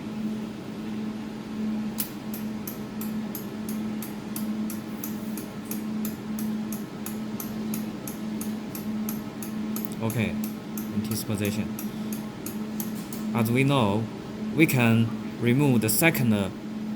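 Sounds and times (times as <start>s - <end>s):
machine low hum: 0.0s - 16.9s.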